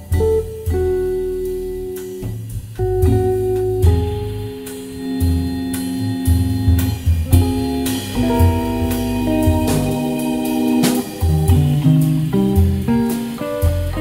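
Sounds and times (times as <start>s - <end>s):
bass notes: 0.0s - 14.0s
drums and cymbals: 0.0s - 14.0s
jazz guitar single-note line: 0.0s - 14.0s
organ chords: 0.0s - 14.0s.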